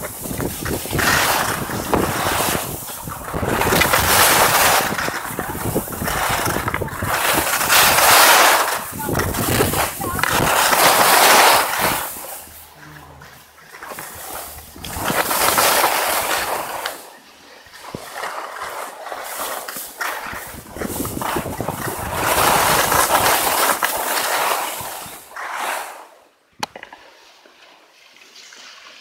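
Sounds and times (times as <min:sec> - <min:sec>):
skis scraping over snow: 0:00.0 - 0:26.4.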